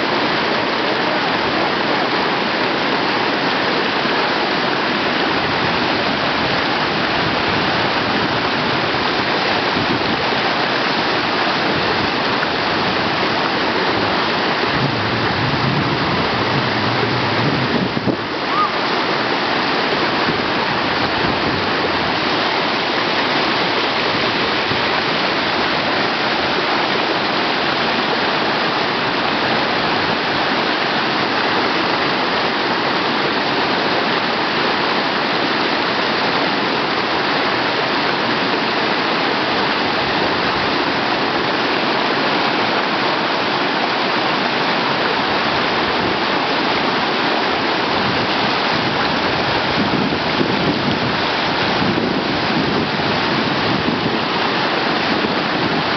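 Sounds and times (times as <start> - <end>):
whitewater rushing: 0.0 - 55.9.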